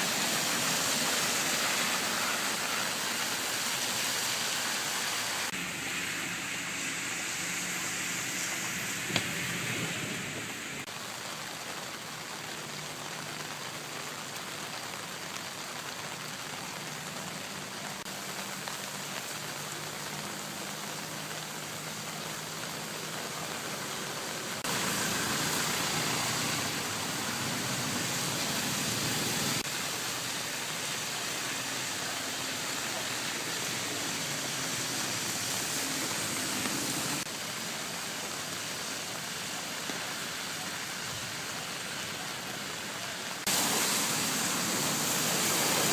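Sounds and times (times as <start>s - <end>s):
heavy rain hiss: 0.0s - 45.9s.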